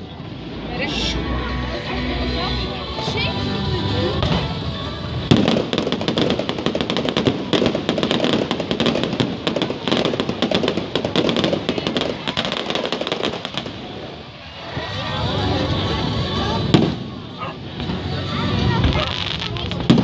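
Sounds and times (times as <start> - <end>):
fireworks crackling: 0.2 - 17.2, 17.8 - 20.0.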